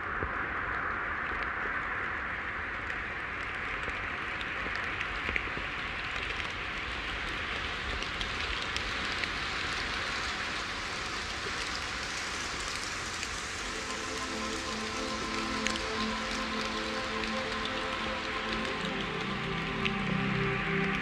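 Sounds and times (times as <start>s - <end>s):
waves washing on a beach: 0.4s - 21.0s.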